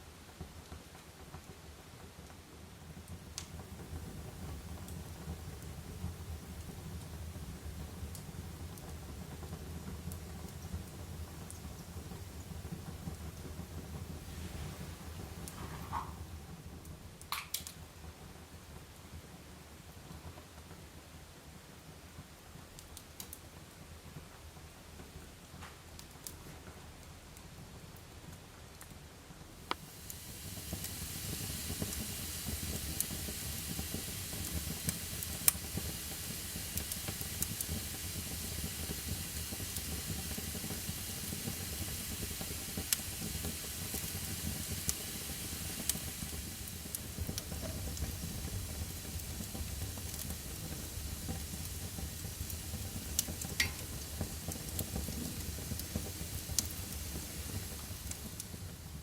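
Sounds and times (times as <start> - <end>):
fire crackling and popping: 0.2 - 59.0
fire hissing: 2.2 - 20.8, 29.5 - 59.0.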